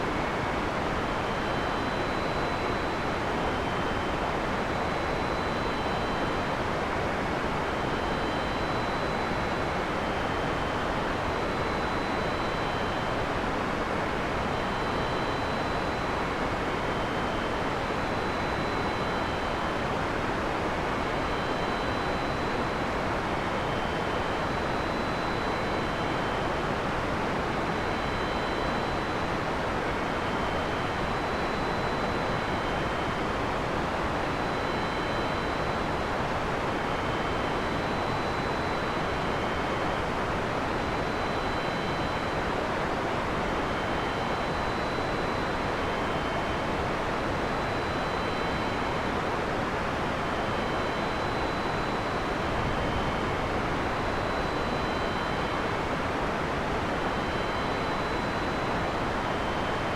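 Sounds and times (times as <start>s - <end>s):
faint high-pitched tones: 0.0s - 59.9s.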